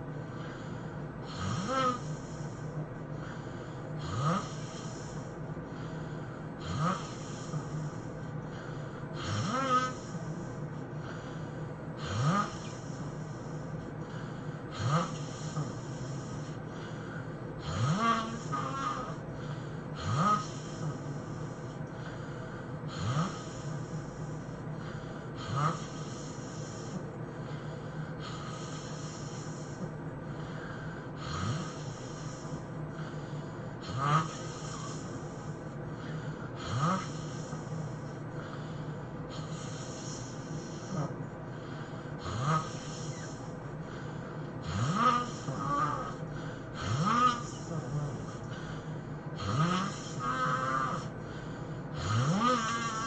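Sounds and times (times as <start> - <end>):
hissing breaths: 0.0 - 53.0
man snoring: 0.0 - 53.0
steady low hum: 0.0 - 53.0.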